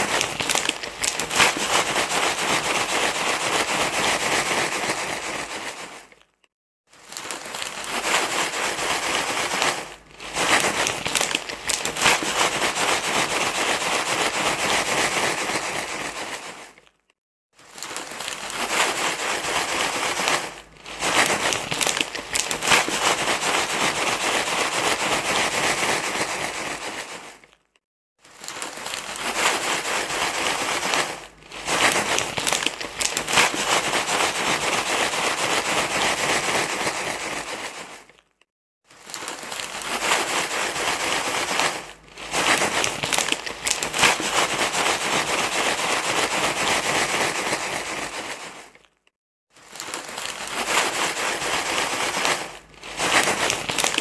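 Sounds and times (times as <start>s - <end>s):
crinkling rustling: 0.0s - 54.0s.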